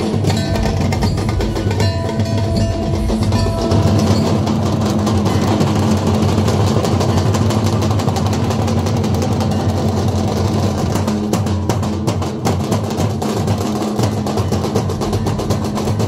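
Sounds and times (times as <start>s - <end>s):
drum band playing: 0.0s - 16.0s.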